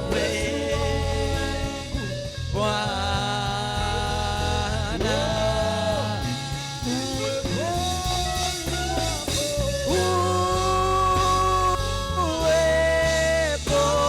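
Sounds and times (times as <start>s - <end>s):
band with steady bass: 0.0s - 14.0s
voices singing long notes: 0.0s - 14.0s.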